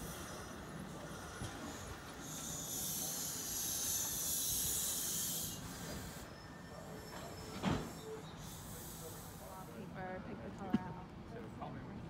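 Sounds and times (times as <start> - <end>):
train compressed air hissing: 0.0 - 9.8
faint low train rumble: 0.0 - 12.0.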